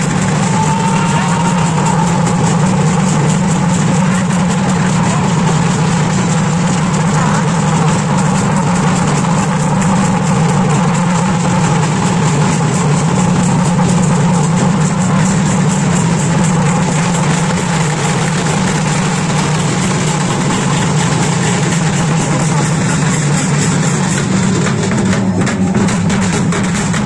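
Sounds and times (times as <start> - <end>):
crowd din: 0.0 - 27.0
fast steady beat: 0.0 - 27.0.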